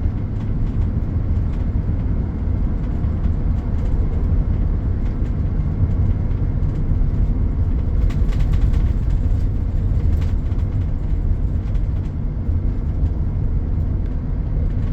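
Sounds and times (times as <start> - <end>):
low rumble of road traffic: 0.0 - 14.9.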